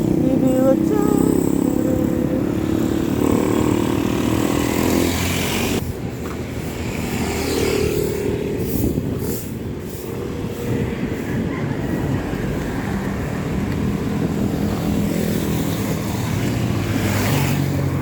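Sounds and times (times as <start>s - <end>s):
steady low traffic rumble: 0.0s - 18.0s
vehicle engines passing: 0.0s - 18.0s.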